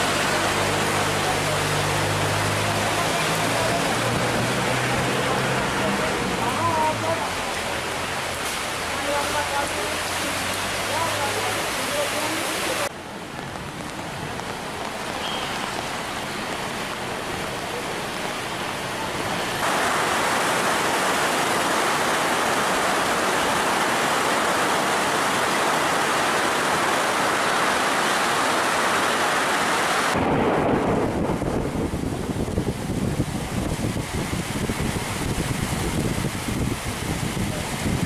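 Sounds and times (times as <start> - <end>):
heavy rain downpour: 0.0 - 38.0.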